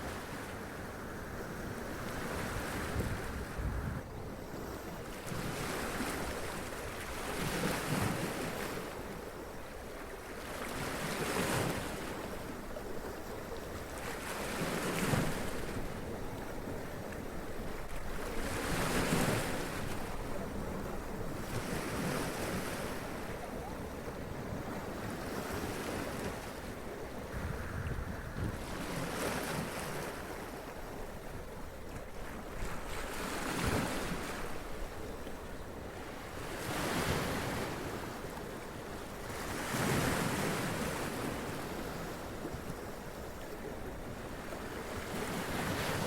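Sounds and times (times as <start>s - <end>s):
wind: 0.0s - 46.0s.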